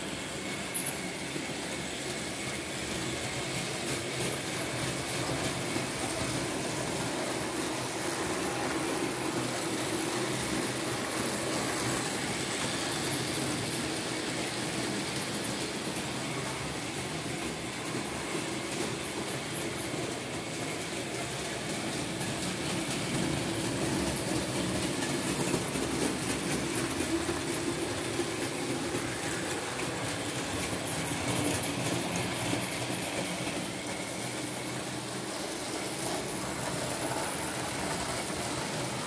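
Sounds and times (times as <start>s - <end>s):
rapid clicking over rails: 0.0s - 39.0s
rumble of model train wheels: 0.0s - 39.0s.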